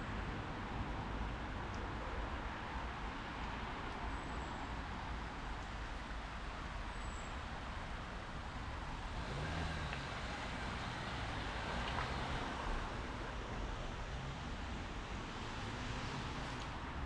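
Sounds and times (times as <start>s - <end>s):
traffic: 0.0s - 17.0s.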